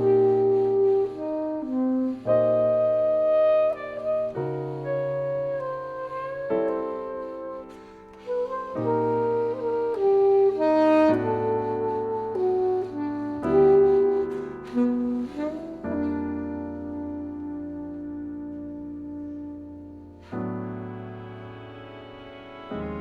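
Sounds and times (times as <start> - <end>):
alto saxophone melody: 0.0 - 23.0
piano chords: 0.0 - 23.0.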